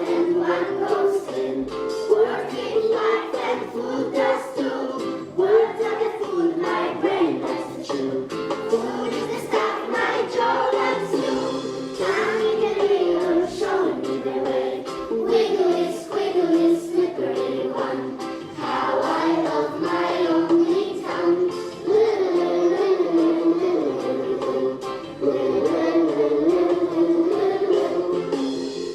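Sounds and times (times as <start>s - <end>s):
children's choir singing: 0.0s - 28.9s.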